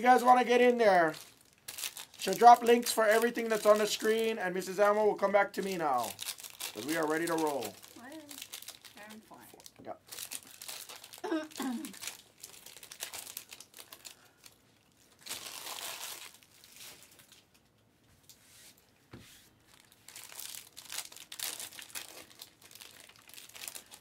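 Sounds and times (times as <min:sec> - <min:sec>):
foil packs crinkling and tearing: 0:00.0 - 0:17.6, 0:19.7 - 0:24.0.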